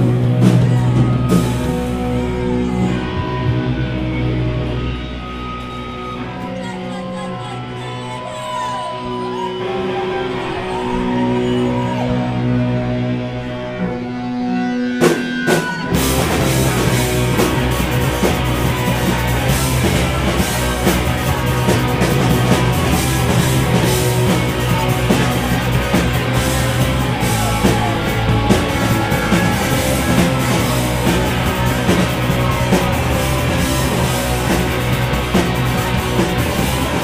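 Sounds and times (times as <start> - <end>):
live rock band playing: 0.0 - 37.0.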